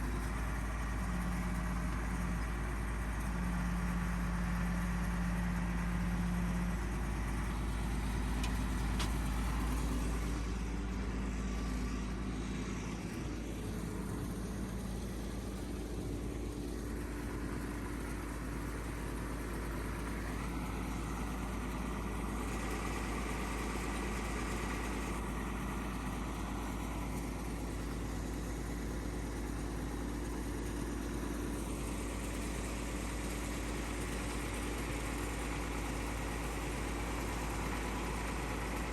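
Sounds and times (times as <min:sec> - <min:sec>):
bulldozer diesel engine rumbling: 0:00.0 - 0:38.9.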